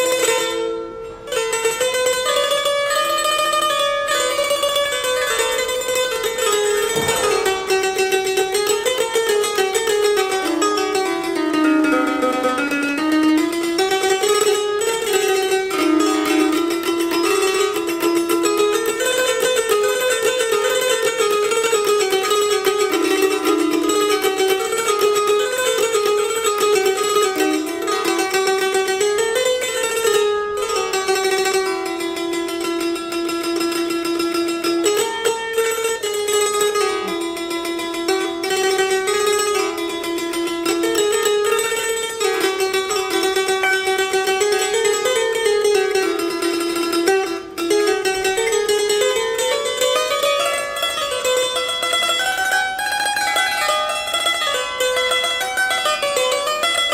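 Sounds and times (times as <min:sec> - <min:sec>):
electrified lyre strummed: 0:00.0 - 0:56.9.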